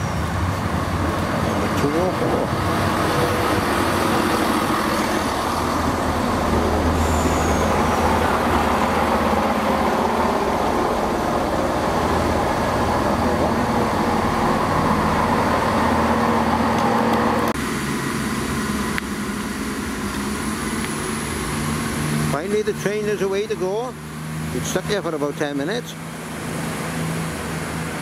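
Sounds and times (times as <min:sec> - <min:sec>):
train diesel engines droning: 0:00.0 - 0:28.0
train engines idling: 0:00.0 - 0:28.0.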